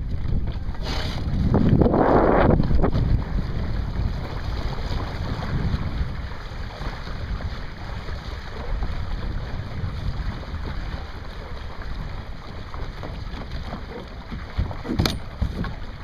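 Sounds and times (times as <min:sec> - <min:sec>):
water washing along hull: 0:00.0 - 0:16.0
wind buffeting microphone: 0:00.0 - 0:16.0.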